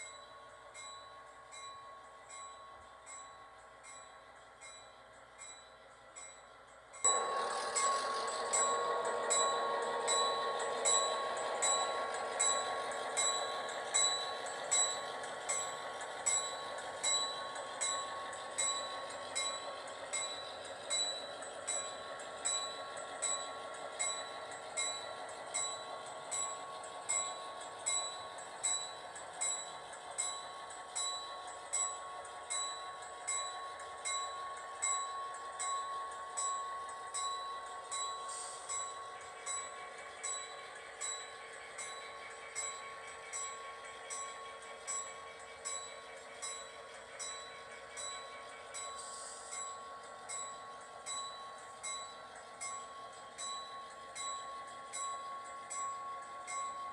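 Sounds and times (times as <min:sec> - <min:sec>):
crossing bell ringing: 0:00.0 - 0:56.9
model locomotives running: 0:00.0 - 0:56.9.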